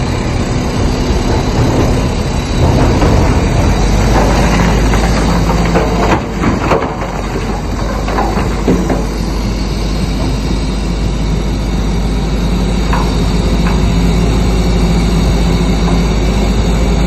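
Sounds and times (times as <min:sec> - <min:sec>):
bulldozer engine rumble: 0:00.0 - 0:17.0
steel tracks clanking and squeaking: 0:00.0 - 0:17.0.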